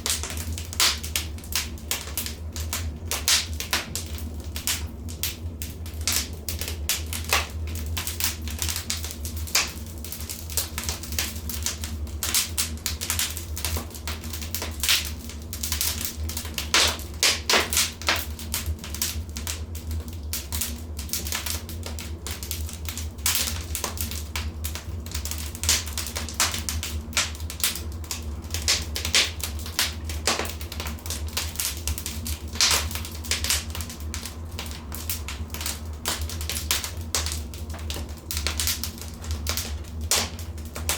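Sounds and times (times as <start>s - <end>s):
wood fire crackling: 0.0s - 40.9s
sharp pops and snaps: 6.0s - 40.9s.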